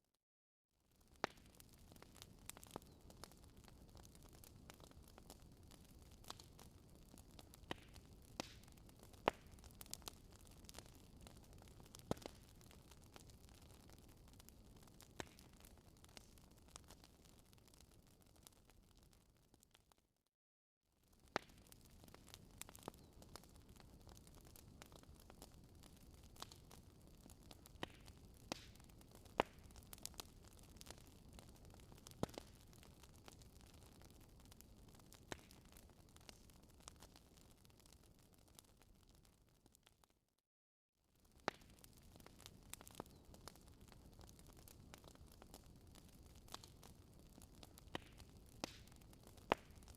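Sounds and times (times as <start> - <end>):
fire crackling and popping: 0.9 - 20.1, 21.0 - 40.2, 41.2 - 49.9.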